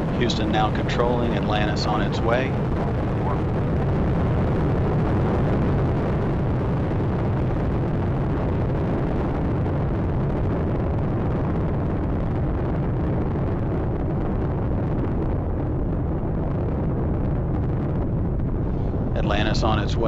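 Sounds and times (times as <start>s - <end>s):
rocket engines deep rumble: 0.0s - 20.0s.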